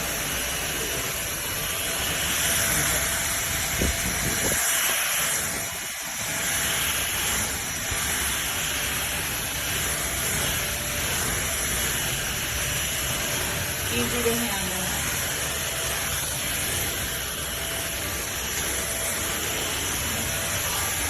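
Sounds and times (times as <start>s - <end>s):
stick vacuum running: 0.0s - 21.0s.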